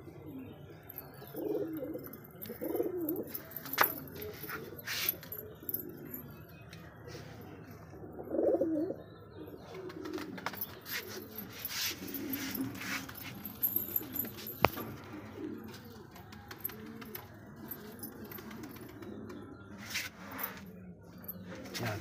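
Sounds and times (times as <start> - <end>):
pigeons cooing: 0.0 - 6.4, 7.8 - 22.0.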